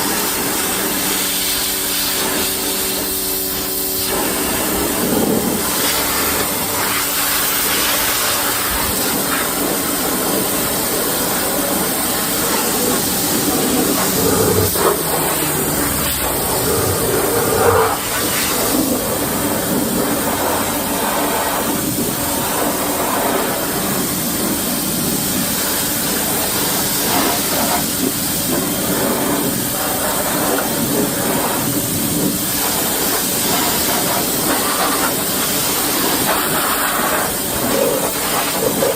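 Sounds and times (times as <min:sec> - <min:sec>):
pressure washer pump running: 0:00.0 - 0:38.9
pressure washer water jet hissing: 0:00.0 - 0:38.9.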